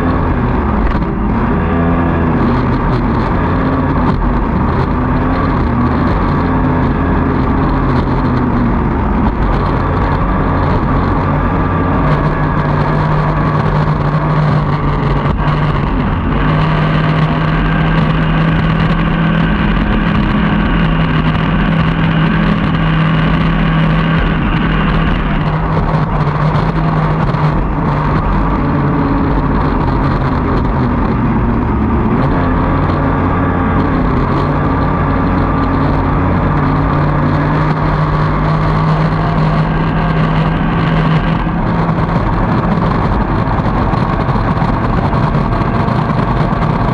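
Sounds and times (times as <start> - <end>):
boat outboard engine racing: 0.0 - 46.9
water rushing along hull: 0.0 - 46.9.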